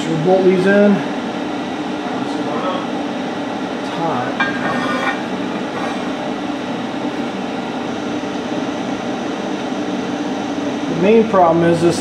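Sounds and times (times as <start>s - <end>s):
machine fan hum: 0.0s - 12.0s.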